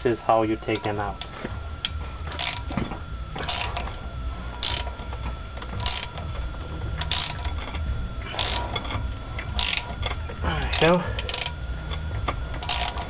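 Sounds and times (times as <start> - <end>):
hand ratchet clicking: 0.6 - 13.0.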